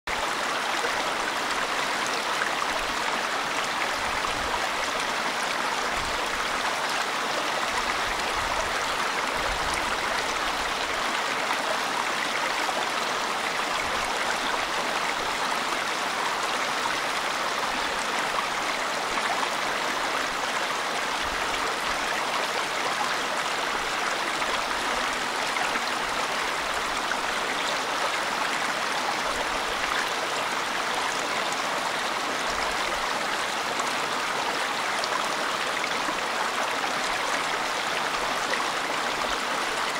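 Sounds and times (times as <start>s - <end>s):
brook flowing over rocks: 0.1s - 39.9s.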